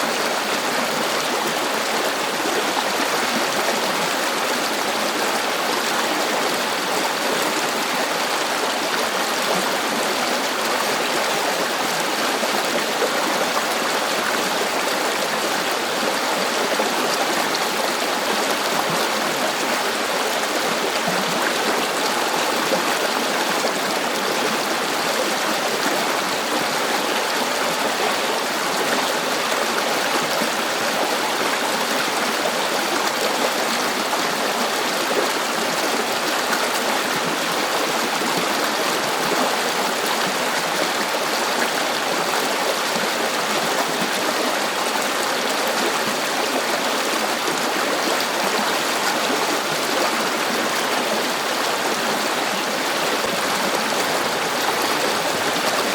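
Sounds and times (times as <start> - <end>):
river flowing over stones: 0.0 - 55.9.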